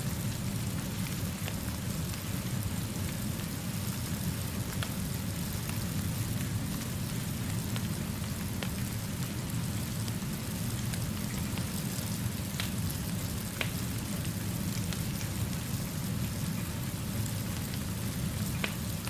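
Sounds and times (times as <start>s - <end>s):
steady rainfall: 0.0s - 19.0s
wood fire crackling: 0.0s - 19.0s.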